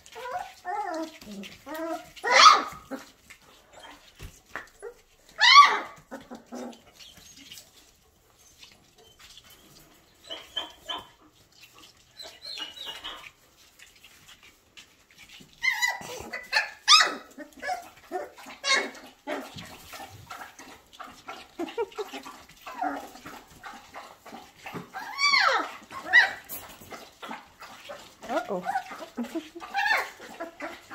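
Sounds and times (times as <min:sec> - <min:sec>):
puppies yipping and squealing: 0:00.0 - 0:30.9.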